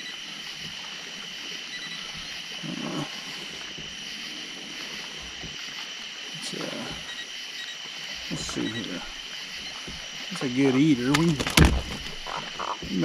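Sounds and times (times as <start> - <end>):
night insects buzzing: 0.0 - 13.0.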